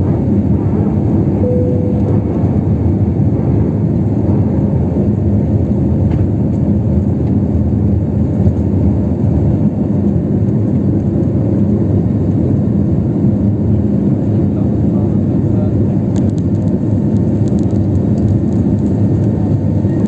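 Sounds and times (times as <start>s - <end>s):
jet engine cabin noise: 0.0s - 20.0s.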